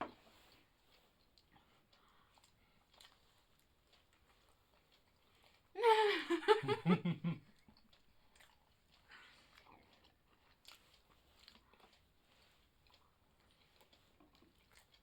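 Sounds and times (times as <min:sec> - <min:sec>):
faint chewing of pizza: 0:00.0 - 0:05.8, 0:06.8 - 0:15.0.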